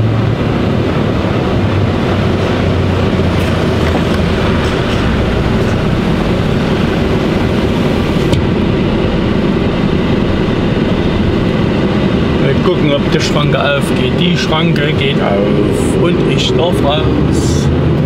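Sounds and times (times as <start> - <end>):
diesel truck engine rumble: 0.0 - 18.0.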